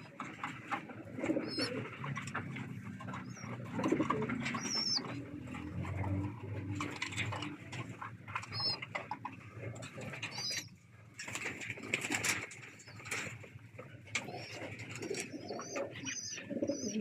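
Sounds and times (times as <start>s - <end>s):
pigeons cooing: 0.0s - 10.8s, 11.7s - 17.0s.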